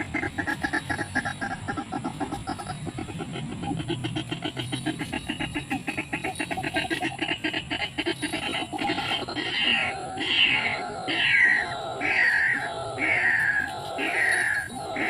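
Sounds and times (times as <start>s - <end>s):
waterhen croaking calls: 0.0s - 15.0s.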